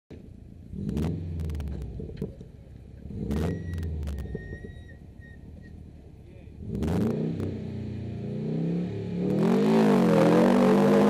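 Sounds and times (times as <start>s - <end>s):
rally car engine idling and revving: 0.1s - 11.0s.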